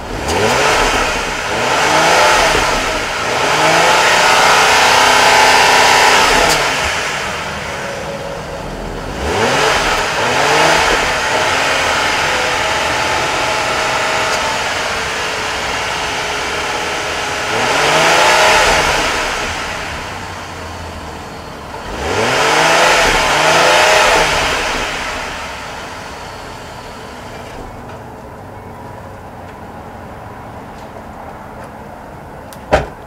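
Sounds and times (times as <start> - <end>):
car engine revving and idling: 0.0 - 32.6.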